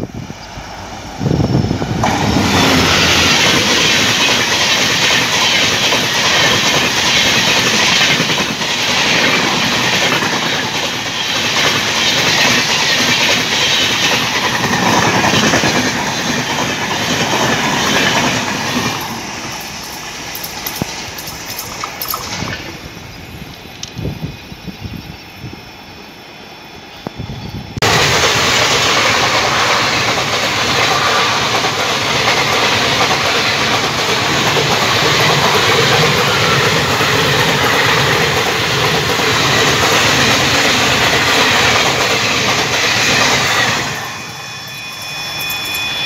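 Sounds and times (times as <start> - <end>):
train wheels rushing on rails: 0.0 - 46.0
clickety-clack over rail joints: 1.8 - 22.8, 27.8 - 44.1.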